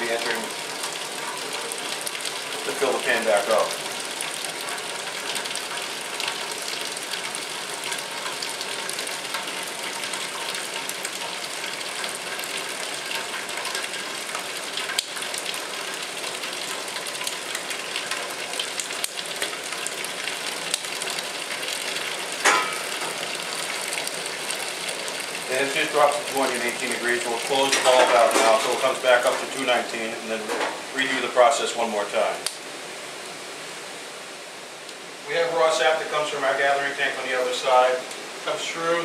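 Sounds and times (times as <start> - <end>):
sap boiling with sizzling hiss: 0.0 - 39.0.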